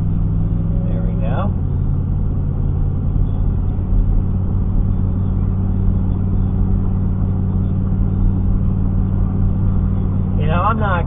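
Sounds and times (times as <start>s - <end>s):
car engine and road noise: 0.0s - 11.0s
constant low hum: 0.0s - 11.0s.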